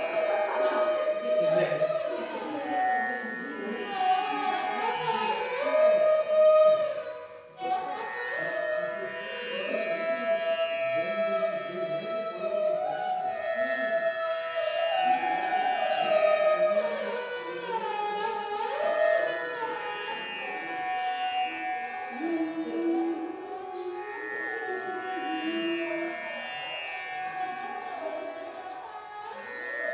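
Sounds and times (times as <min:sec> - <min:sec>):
indian classical instrumental music: 0:00.0 - 0:29.9.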